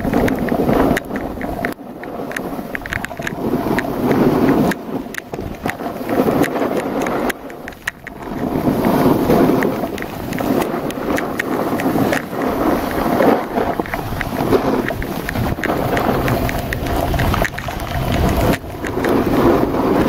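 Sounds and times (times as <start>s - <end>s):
skis scraping over packed snow: 0.0s - 20.0s
wind rushing over microphone: 0.0s - 20.0s.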